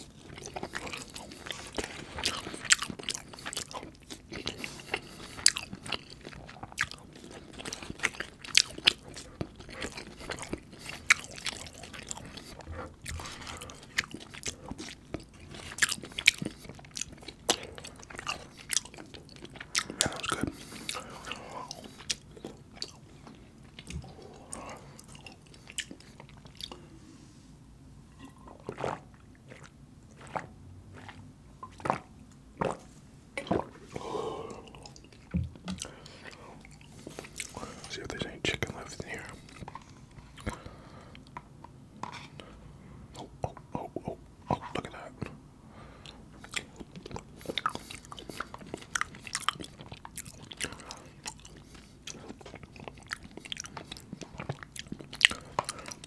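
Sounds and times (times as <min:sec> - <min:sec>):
chewing and wet mouth sounds: 0:00.0 - 0:27.0, 0:28.1 - 0:56.0.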